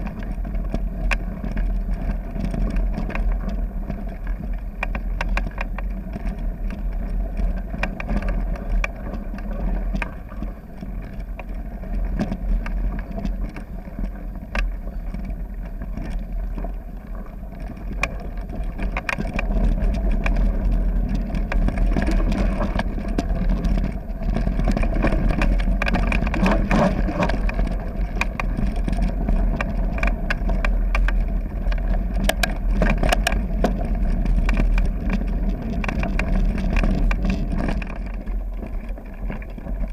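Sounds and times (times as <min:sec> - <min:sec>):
bike rattling over bumps: 0:00.0 - 0:39.9
wind rumble on microphone: 0:00.0 - 0:39.9.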